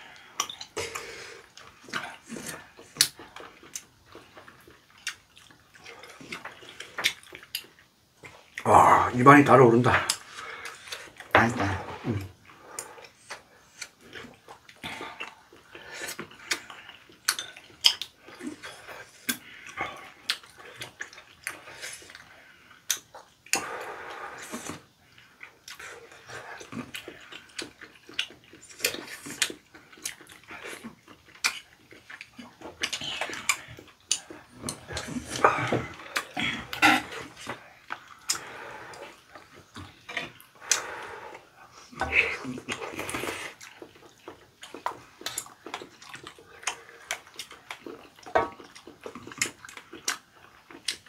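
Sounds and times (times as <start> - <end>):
wet chewing: 0.0 - 8.7, 9.9 - 51.0
slurping: 0.1 - 51.0.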